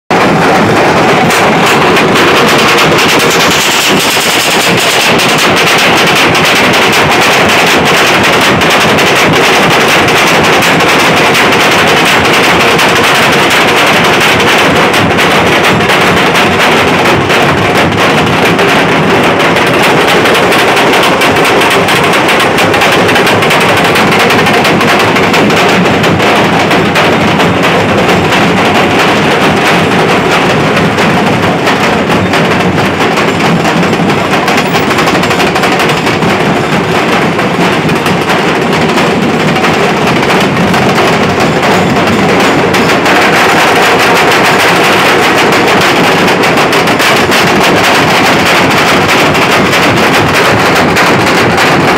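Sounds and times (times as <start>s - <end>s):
barrel drums beaten fast: 0.1s - 51.9s.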